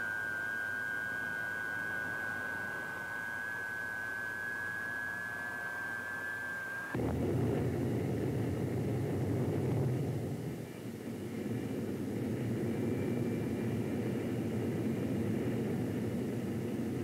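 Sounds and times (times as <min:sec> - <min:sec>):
jet engine deep roar: 0:00.0 - 0:17.0
jet engine whine spinning up: 0:00.0 - 0:17.0.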